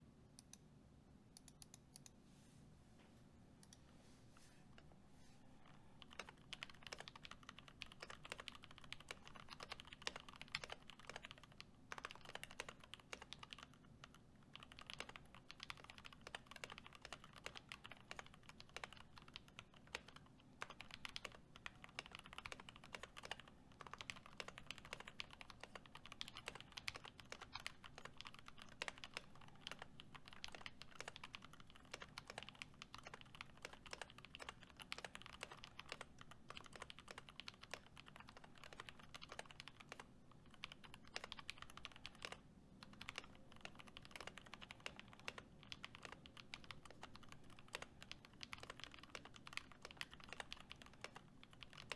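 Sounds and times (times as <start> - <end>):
fast typing on mechanical keyboard: 6.0 - 51.9.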